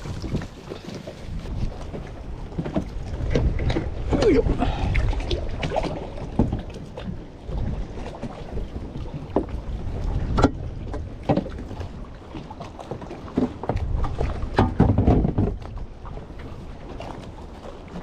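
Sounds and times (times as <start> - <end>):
knocks and clunks on boat: 0.0 - 18.0
wind rumbling on microphone: 0.0 - 18.0.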